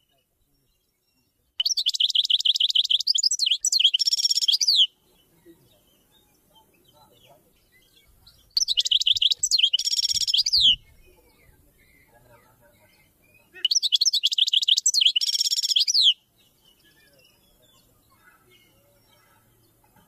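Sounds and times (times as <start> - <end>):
songbird high-pitched trills: 0.6 - 6.8, 7.6 - 12.2, 12.9 - 19.2.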